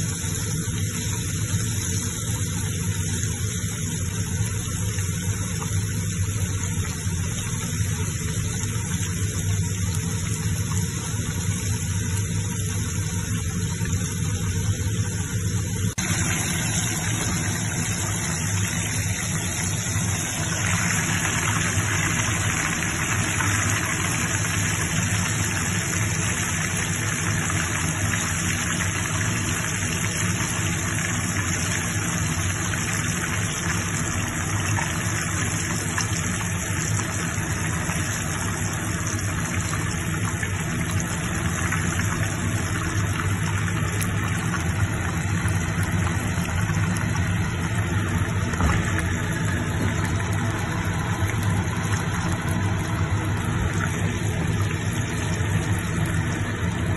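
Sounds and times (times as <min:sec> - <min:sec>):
constant low hum: 0:00.0 - 0:56.9
food deep-frying in hot oil: 0:00.0 - 0:56.9.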